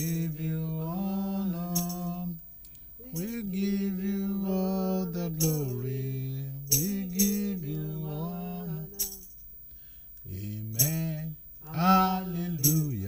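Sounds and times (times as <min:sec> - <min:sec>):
voices singing worship chorus: 0:00.0 - 0:02.4, 0:03.0 - 0:09.2, 0:10.3 - 0:13.0.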